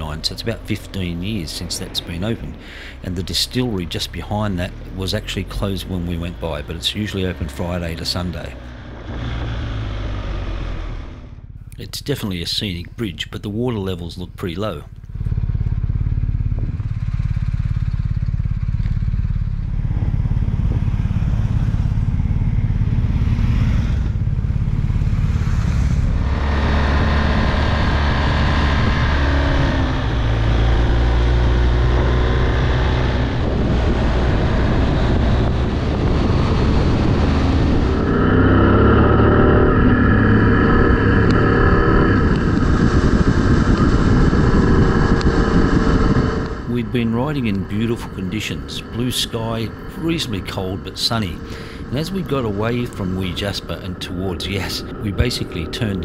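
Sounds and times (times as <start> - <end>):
motorcycle engine running: 0.0 - 11.8, 14.6 - 56.0.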